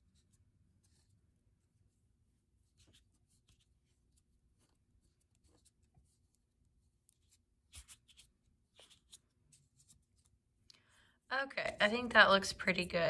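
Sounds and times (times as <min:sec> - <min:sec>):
oil pastel rubbing on paper: 0:00.0 - 0:10.6.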